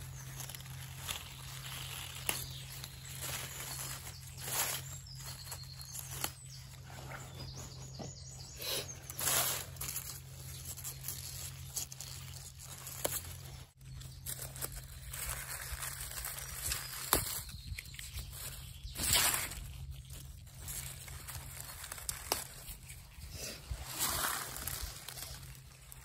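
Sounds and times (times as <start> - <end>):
leaves rustling against gloved hand: 0.0 - 26.0.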